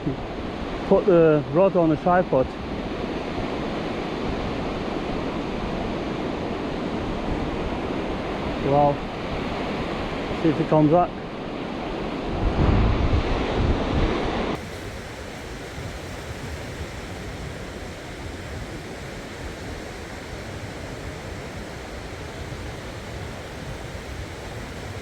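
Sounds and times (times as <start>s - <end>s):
sea surf washing on shore: 0.0s - 25.0s
wind on microphone: 0.0s - 25.0s.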